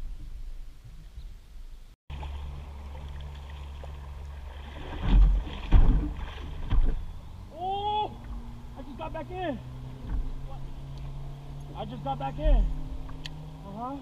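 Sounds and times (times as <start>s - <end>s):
boat motor humming: 2.1s - 14.0s.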